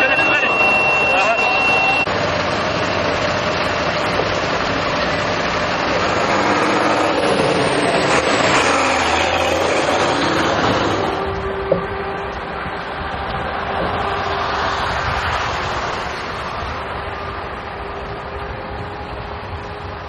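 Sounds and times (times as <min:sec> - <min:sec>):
fire engine motor running: 0:00.0 - 0:20.0
loud even rushing noise: 0:00.0 - 0:20.0.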